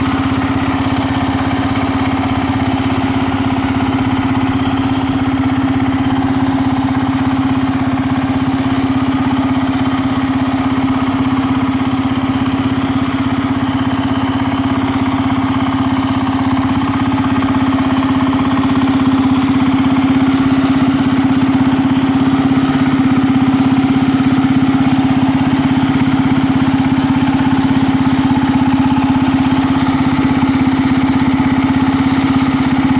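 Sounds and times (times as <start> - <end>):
small tractor engine droning: 0.0 - 32.9.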